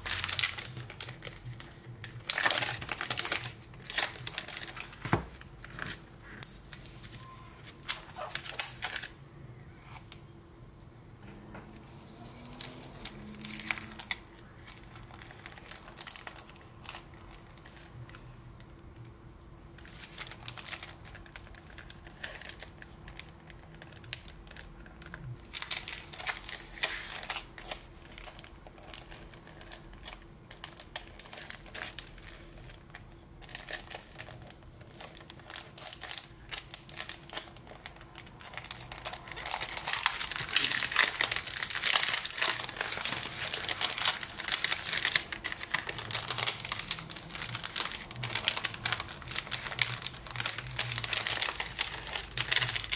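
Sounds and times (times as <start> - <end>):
plastic packaging crinkling: 0.0 - 9.2, 12.4 - 18.4, 19.8 - 52.9.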